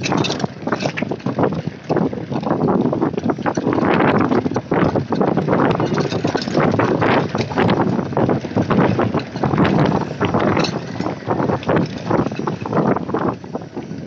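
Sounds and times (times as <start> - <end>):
bike knocks and rattles: 0.0 - 14.0
wind buffeting microphone: 0.0 - 14.0.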